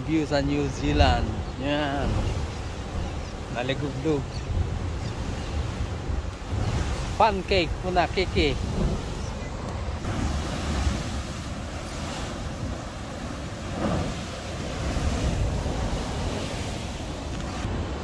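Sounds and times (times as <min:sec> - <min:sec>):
sea surf churning in rocks: 0:00.0 - 0:18.0
wind buffeting microphone: 0:00.0 - 0:18.0.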